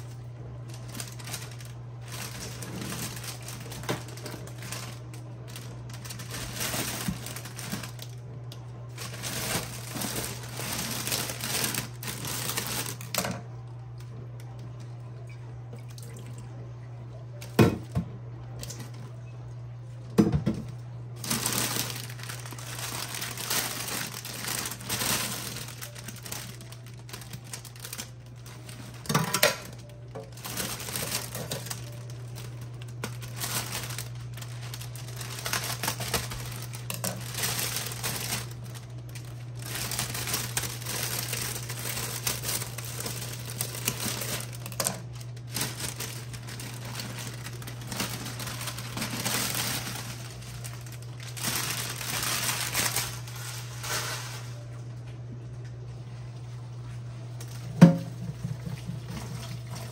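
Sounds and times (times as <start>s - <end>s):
wrapping crinkling: 0.0s - 15.2s, 20.6s - 55.0s.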